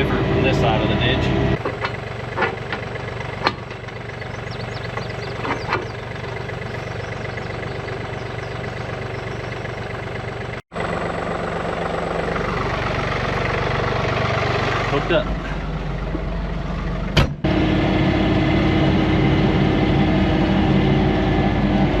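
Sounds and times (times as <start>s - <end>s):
diesel tractor engine idling: 0.0s - 20.9s.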